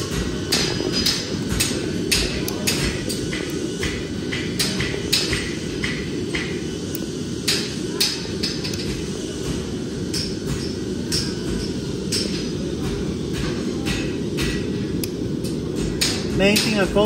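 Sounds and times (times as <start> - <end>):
hammer striking steel: 0.0 - 12.5, 13.3 - 14.8, 15.4 - 17.0.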